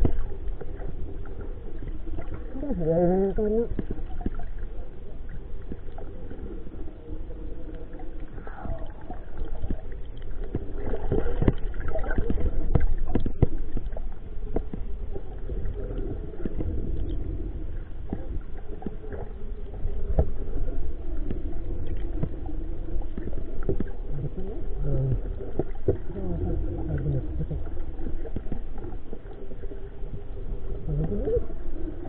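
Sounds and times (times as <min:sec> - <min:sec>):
muffled underwater sloshing: 0:00.0 - 0:32.0.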